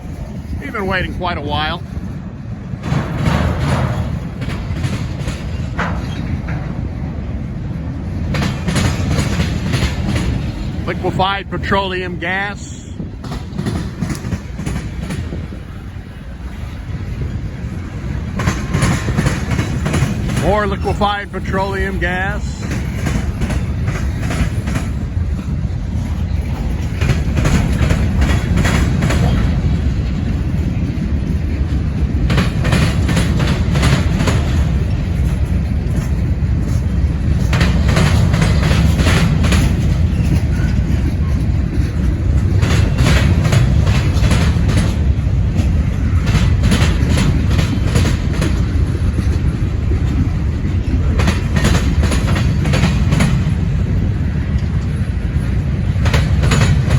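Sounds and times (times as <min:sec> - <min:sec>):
freight train rumbling past: 0:00.0 - 0:56.9
wheels clicking over rail joints: 0:00.0 - 0:56.9.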